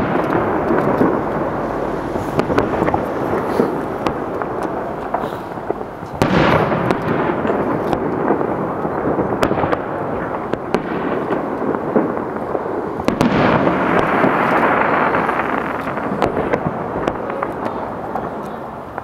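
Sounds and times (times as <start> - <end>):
fireworks booms: 0.0 - 19.0
fireworks shell bursts rumbling: 0.0 - 19.0
sharp fireworks crackles: 0.0 - 19.0.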